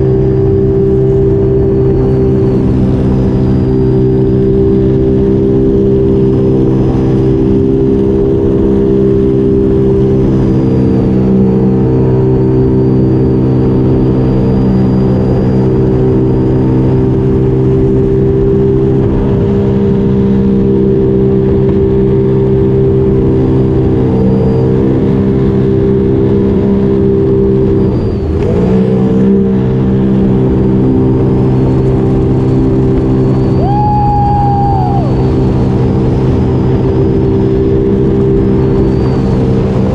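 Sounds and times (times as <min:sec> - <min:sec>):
watercraft engine at high throttle: 0:00.0 - 0:39.9.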